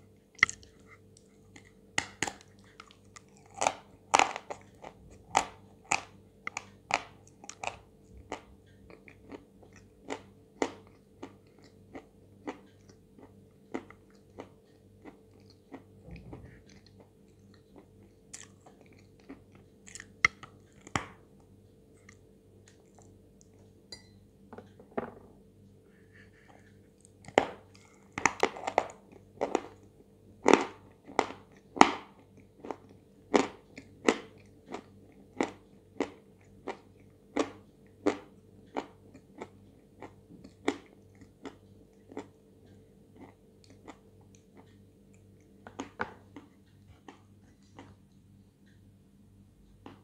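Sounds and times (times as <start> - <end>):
chalk crunching while chewed: 0.4 - 21.0, 26.5 - 48.2.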